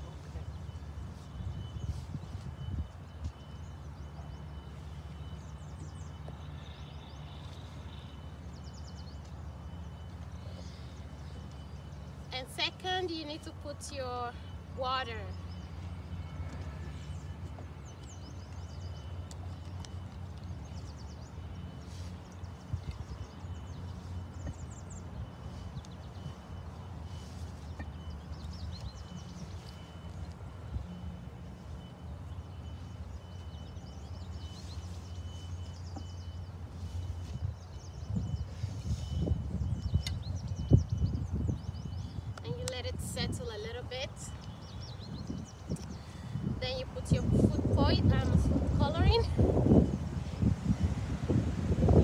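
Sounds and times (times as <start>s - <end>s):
small birds chirping: 0.0s - 52.0s
steady low rumble: 0.0s - 52.0s.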